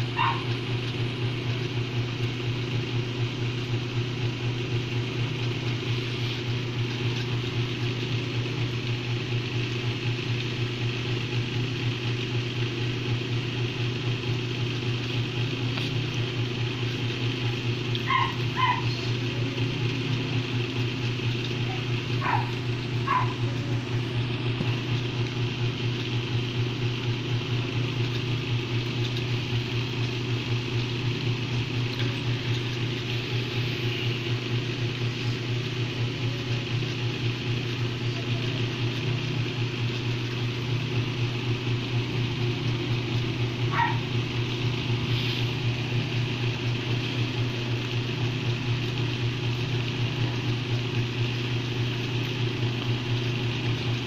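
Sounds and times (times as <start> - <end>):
low pulsing machine hum: 0.0 - 54.0.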